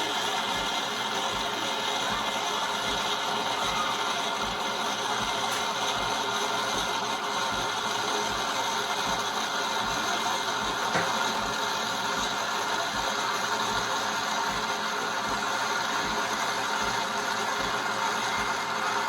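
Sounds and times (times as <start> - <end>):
coffee machine frothing milk: 0.0 - 19.0.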